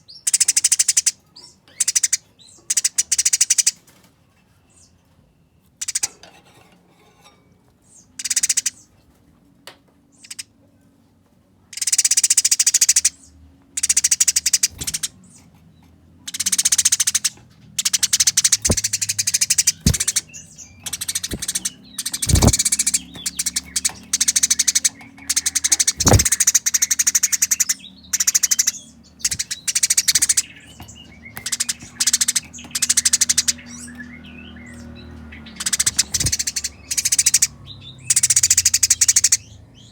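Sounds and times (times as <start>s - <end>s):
sparrows harsh chattering: 0.0s - 5.0s, 5.8s - 9.1s, 10.1s - 10.6s, 11.7s - 39.9s.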